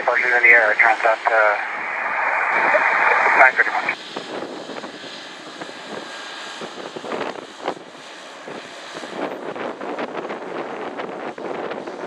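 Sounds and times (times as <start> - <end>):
jet engine roar: 0.0 - 12.0
wind buffeting microphone: 1.7 - 12.0.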